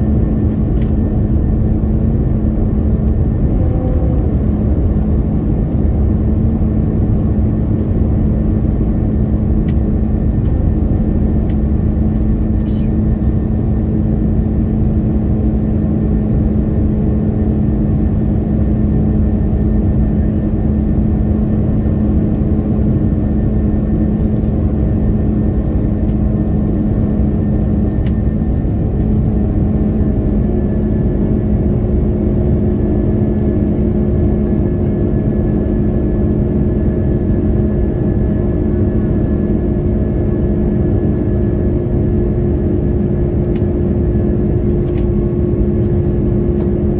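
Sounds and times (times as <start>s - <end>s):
constant multi-tone hum: 0.0s - 46.9s.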